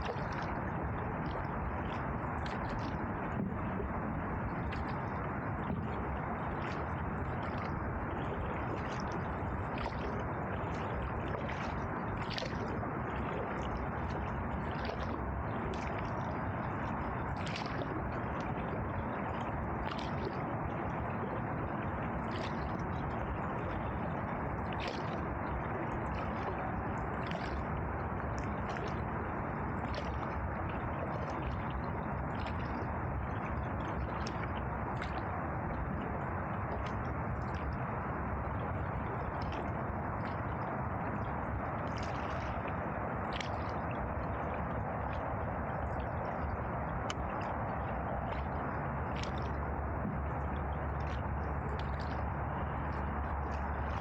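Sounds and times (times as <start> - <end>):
paddle splashing in water: 0.0 - 54.0.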